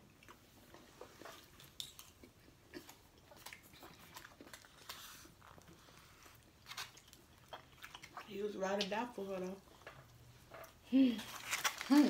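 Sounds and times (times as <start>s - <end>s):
people chewing soft food: 0.0s - 12.0s.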